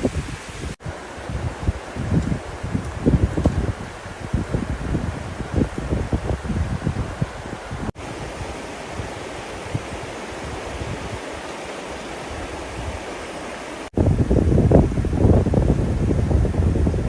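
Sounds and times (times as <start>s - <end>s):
hiss of water: 0.0s - 17.0s
wind gusts buffeting microphone: 0.0s - 17.0s.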